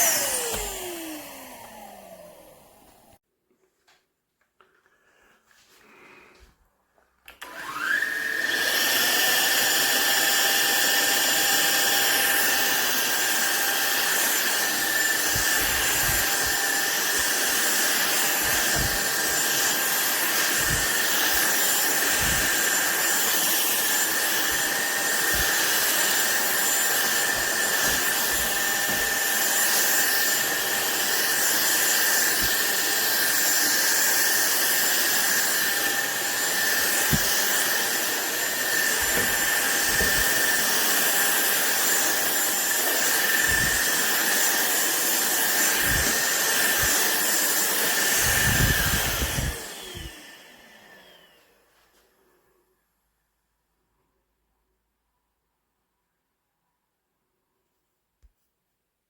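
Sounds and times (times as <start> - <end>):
vacuum cleaner motor whining: 0.0 - 3.2, 7.2 - 52.6.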